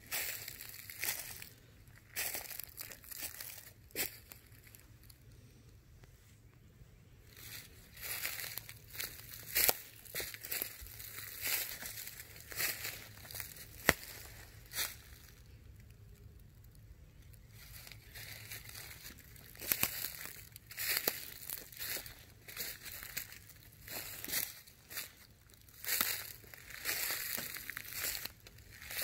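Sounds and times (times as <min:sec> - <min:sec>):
footsteps crunching through dry leaves: 0:00.0 - 0:05.2, 0:07.2 - 0:16.3, 0:17.2 - 0:29.0.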